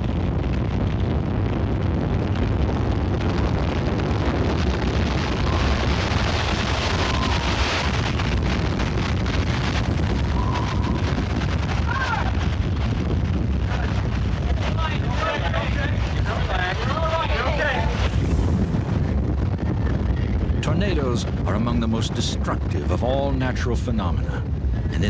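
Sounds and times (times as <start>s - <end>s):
wind buffeting microphone: 0.0s - 25.0s
wind rushing: 0.0s - 25.0s.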